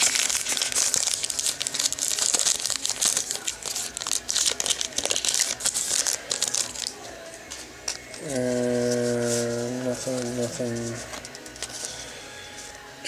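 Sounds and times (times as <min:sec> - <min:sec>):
wrapper crinkling: 0:00.0 - 0:12.8.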